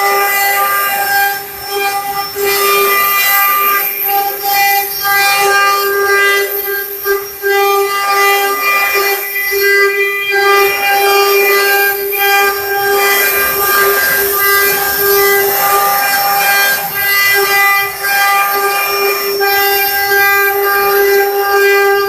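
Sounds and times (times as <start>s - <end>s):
router spindle whining: 0.0s - 22.0s.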